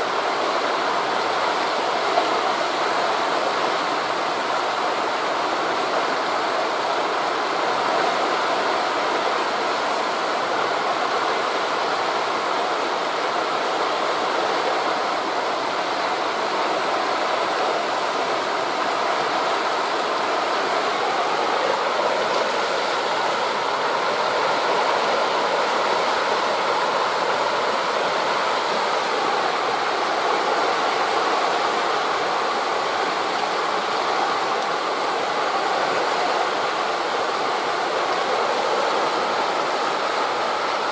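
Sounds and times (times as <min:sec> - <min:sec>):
sea waves washing: 0:00.0 - 0:40.9
wind rushing through trees: 0:00.0 - 0:40.9.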